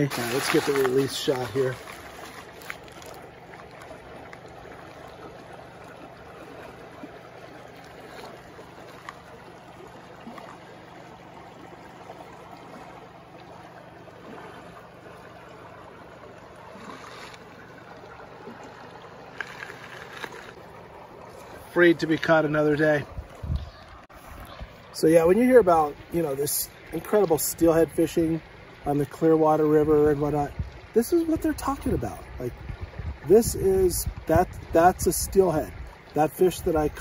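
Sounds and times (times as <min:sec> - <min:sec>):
stream running over rocks: 0:00.0 - 0:37.0.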